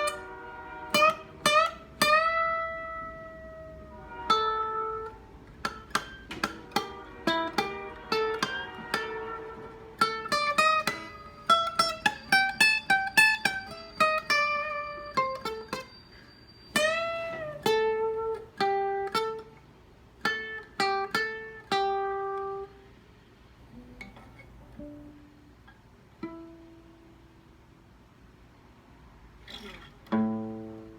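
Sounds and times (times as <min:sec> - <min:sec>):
blues guitar licks: 0:00.0 - 0:22.9, 0:23.7 - 0:27.4, 0:29.4 - 0:30.9.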